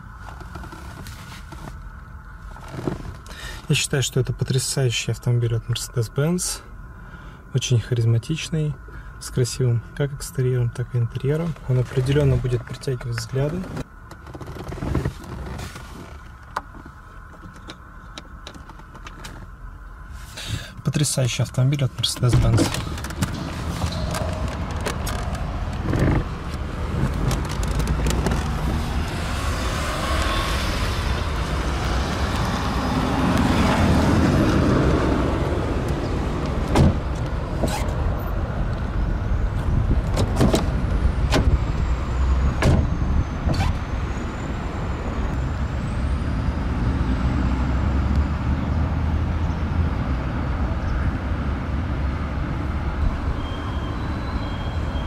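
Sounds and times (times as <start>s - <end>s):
car low rumble: 0.0s - 55.0s.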